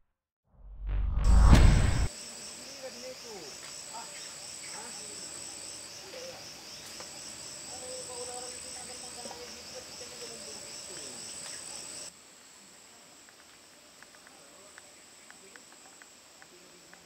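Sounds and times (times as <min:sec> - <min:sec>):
insects pulsing chirring: 0:02.1 - 0:17.0.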